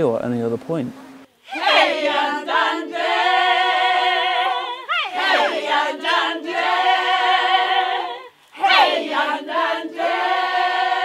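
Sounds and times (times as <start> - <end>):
voices singing unaccompanied: 1.4 - 11.0.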